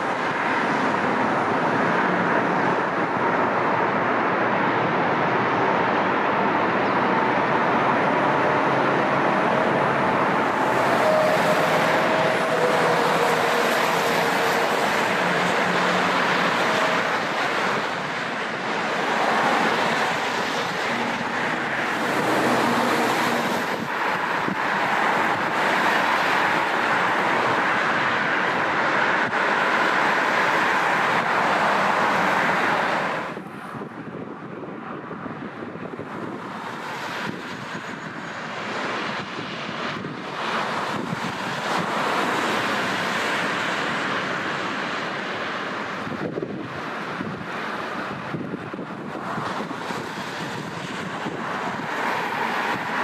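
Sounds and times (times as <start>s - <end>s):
jet engines roaring: 0.0s - 33.9s, 35.8s - 53.0s
wind buffeting microphone: 0.2s - 29.4s, 31.0s - 53.0s.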